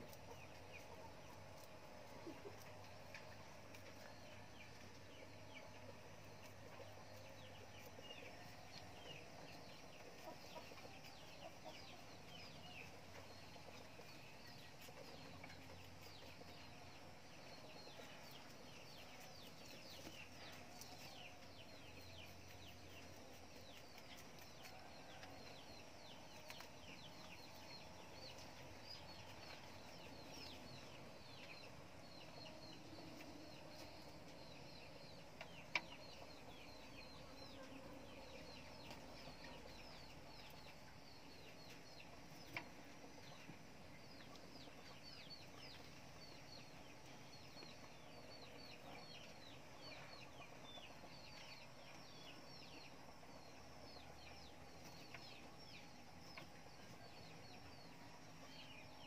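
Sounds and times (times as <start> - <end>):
bird chirping: 0.0 - 59.0
low steady hum: 0.0 - 59.0.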